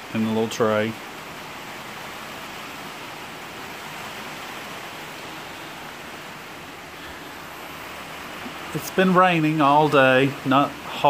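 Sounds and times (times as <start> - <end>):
light rain on a greenhouse roof: 0.0 - 11.0.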